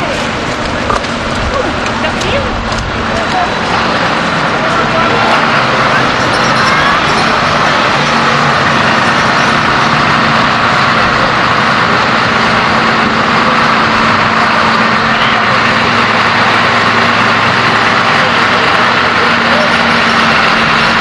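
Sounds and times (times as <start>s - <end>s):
large engine idling: 0.0s - 21.0s.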